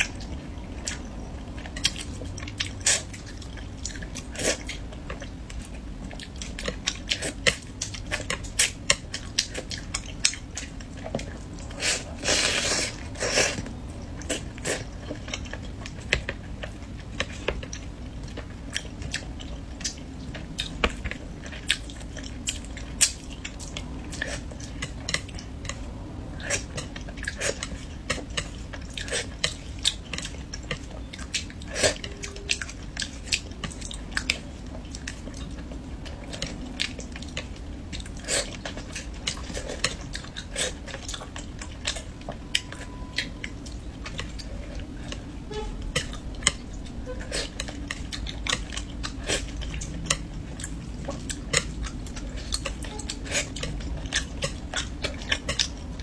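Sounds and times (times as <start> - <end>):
close chewing and biting: 0.0 - 56.0
steady low hum: 0.0 - 56.0.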